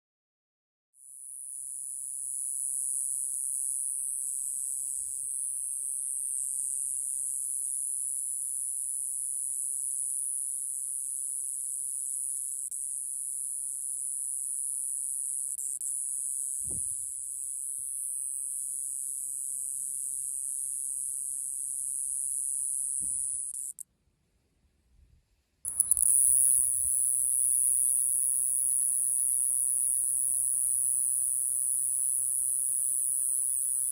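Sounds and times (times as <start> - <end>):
cicada high-pitched buzz: 1.0 - 23.8, 25.7 - 33.9.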